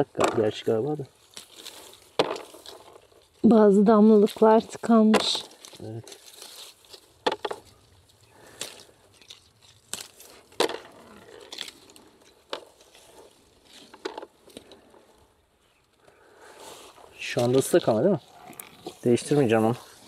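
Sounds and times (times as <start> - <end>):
dry branches crackling and snapping: 0.0 - 20.0.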